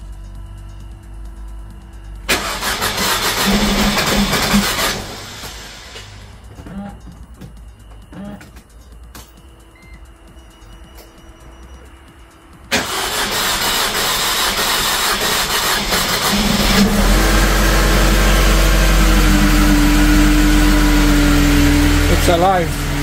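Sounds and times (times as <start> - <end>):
car engine starting and idling: 0.0 - 7.1, 11.6 - 23.0.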